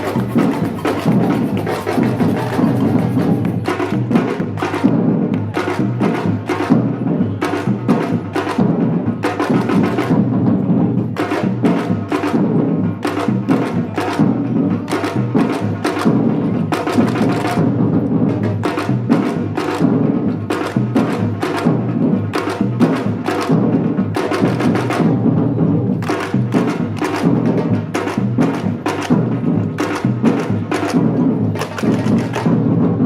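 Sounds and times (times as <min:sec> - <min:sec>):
samba drums beating: 0:00.0 - 0:33.0.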